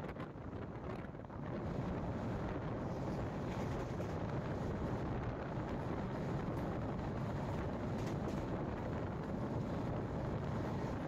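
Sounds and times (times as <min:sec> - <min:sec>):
passenger train rumbling: 0:01.3 - 0:11.0.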